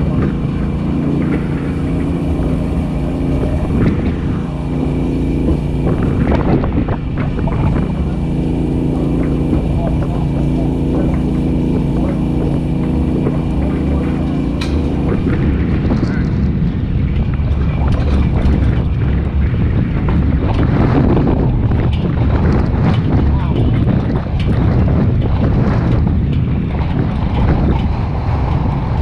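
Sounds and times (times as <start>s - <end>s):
truck engine running: 0.0s - 29.0s
truck knocking and rattling: 0.0s - 29.0s.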